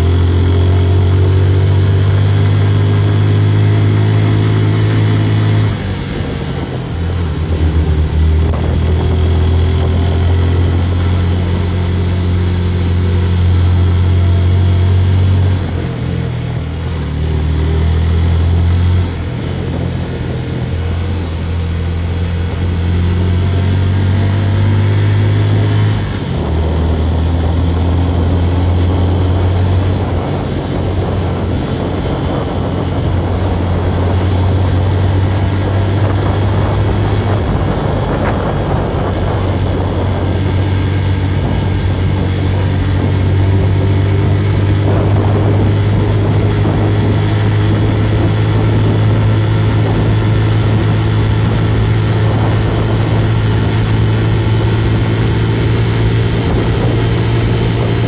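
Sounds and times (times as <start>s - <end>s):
motorbike engine running: 0.0s - 58.0s
wind and road noise: 0.0s - 58.0s.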